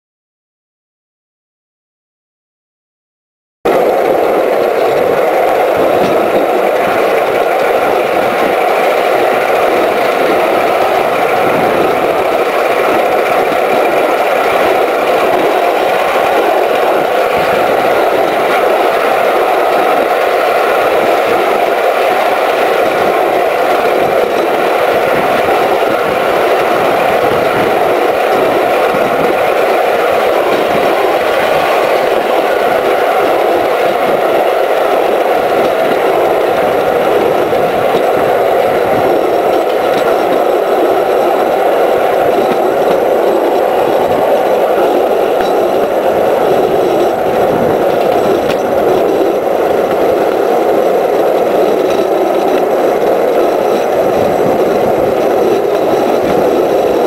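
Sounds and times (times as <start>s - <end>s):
continuous rattle: 3.7s - 57.0s
steam locomotive running: 3.7s - 57.0s.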